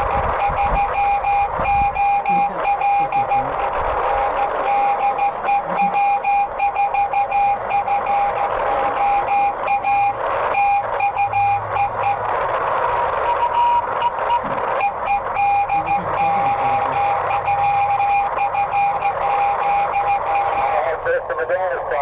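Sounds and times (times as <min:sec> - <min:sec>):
radio band noise hiss: 0:00.0 - 0:22.0.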